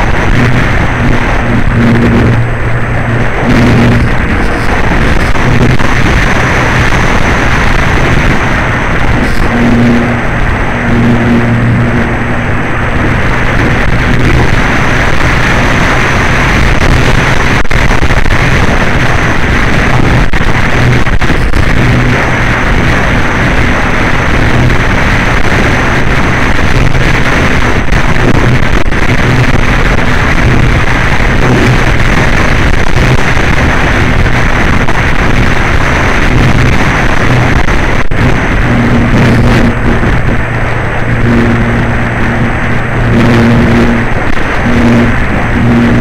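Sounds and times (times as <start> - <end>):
electric motor and propeller hum: 0.0 - 46.0
wind buffeting microphone: 0.0 - 46.0.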